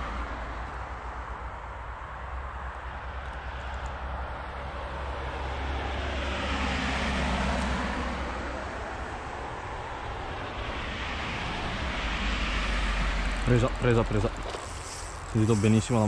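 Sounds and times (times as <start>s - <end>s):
road traffic rushing: 0.0s - 16.0s.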